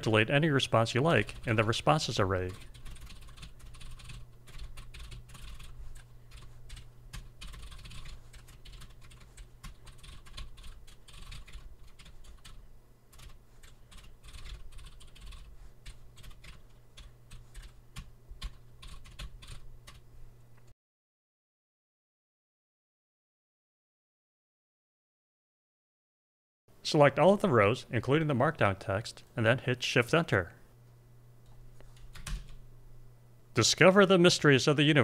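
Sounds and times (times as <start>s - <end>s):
low steady hum: 0.0s - 20.7s, 26.7s - 35.0s.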